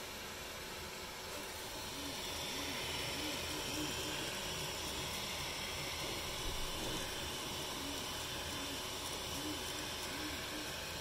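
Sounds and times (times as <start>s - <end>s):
cooling fans hissing: 0.0s - 11.0s
stepper motor whines: 1.5s - 11.0s.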